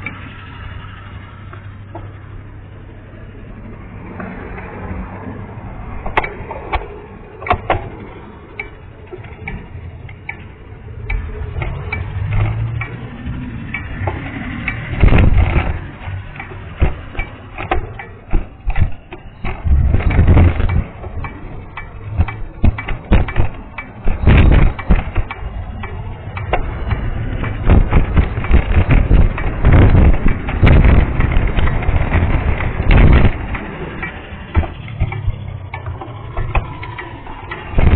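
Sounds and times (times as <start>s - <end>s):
punctured tyre rolling with clicks: 0.0s - 37.9s.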